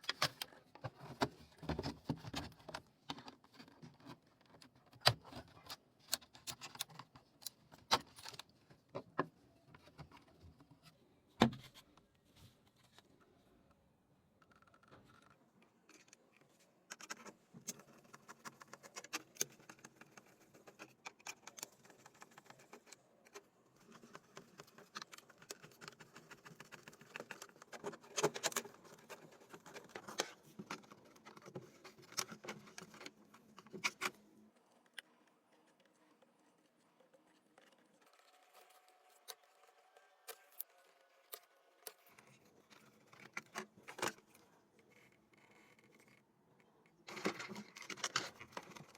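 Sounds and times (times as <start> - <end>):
plastic keyboard parts clicking: 0.0 - 10.3, 14.4 - 46.2, 47.0 - 48.9.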